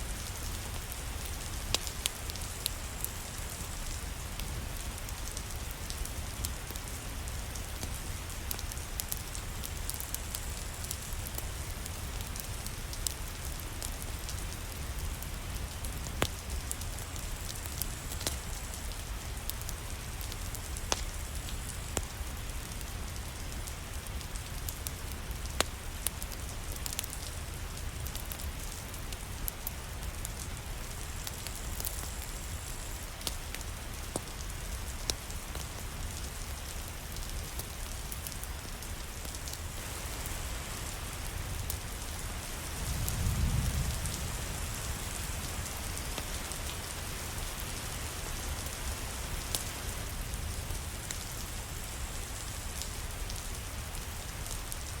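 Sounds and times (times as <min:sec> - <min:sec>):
steady rain falling: 0:00.0 - 0:55.0
wood fire crackling: 0:00.0 - 0:55.0.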